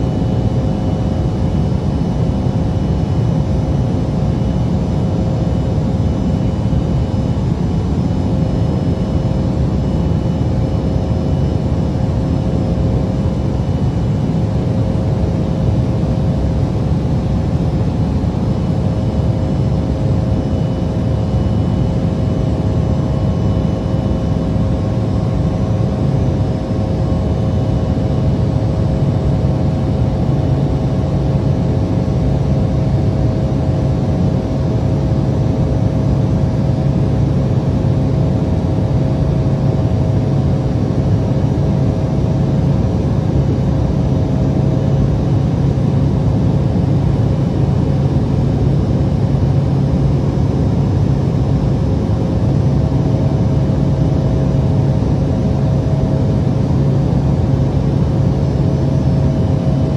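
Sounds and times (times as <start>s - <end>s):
faint steady hum of tones: 0.0s - 59.9s
jet engines droning in cabin: 0.0s - 59.9s.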